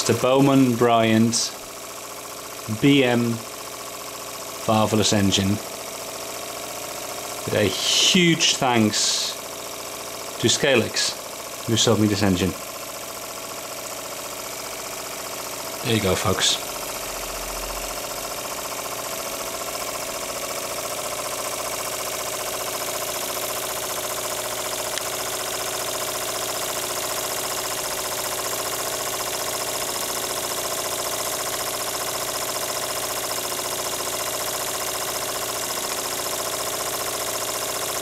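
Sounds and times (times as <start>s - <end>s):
model steam engine running: 0.0s - 38.0s.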